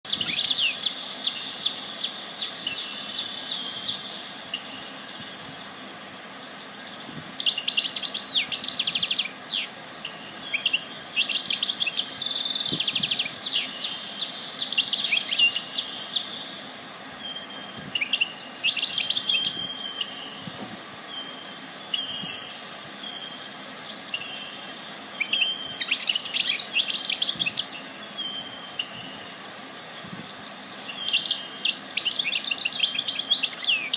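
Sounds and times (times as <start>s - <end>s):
high-pitched insect drone: 0.1s - 33.9s
songbirds chirping and trilling: 0.1s - 33.9s.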